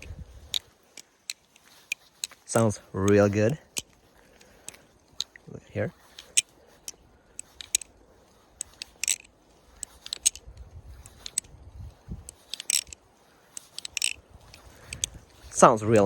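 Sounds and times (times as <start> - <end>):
butterfly knife clicking and clacking: 0.1 - 11.6, 12.2 - 16.0.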